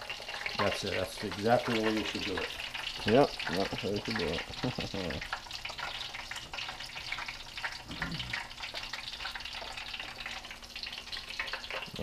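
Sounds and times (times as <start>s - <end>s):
fish fillets frying in hot oil: 0.0s - 12.0s.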